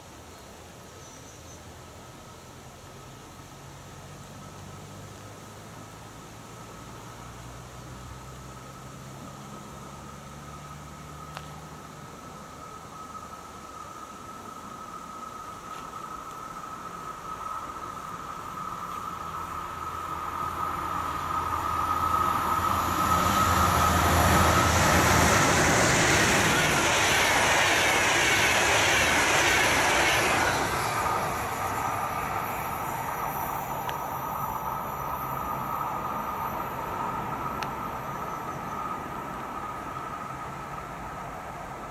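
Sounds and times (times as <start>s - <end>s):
rail and wheel noise: 0.0s - 41.9s
train passing at speed: 1.8s - 41.9s
steady high whine: 5.6s - 41.9s.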